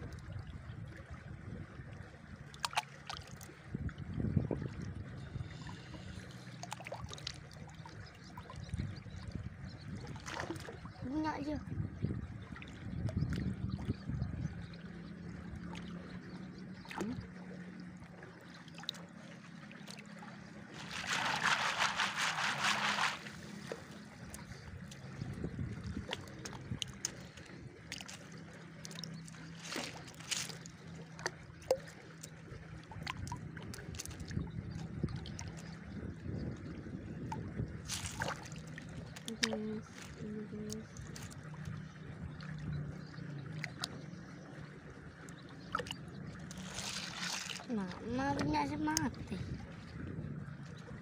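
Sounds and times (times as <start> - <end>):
water sloshing and trickling: 0.0 - 51.0
water splashing: 2.1 - 3.6, 4.6 - 9.2, 10.0 - 11.5, 14.8 - 35.9, 37.2 - 51.0.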